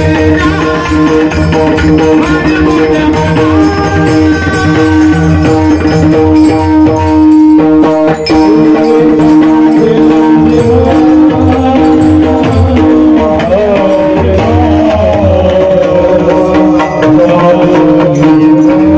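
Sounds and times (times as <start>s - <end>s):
drum steady beat: 0.0s - 18.9s
wavering melodic line: 0.2s - 18.9s.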